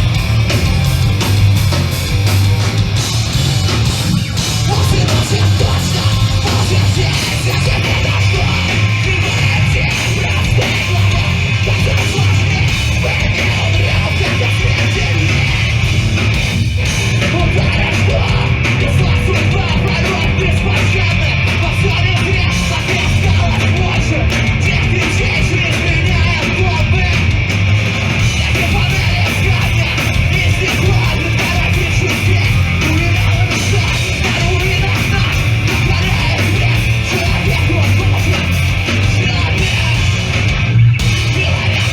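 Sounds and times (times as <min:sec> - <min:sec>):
bass guitar: 0:00.0 - 0:41.9
distorted electric guitars: 0:00.0 - 0:41.9
drums: 0:00.0 - 0:41.9.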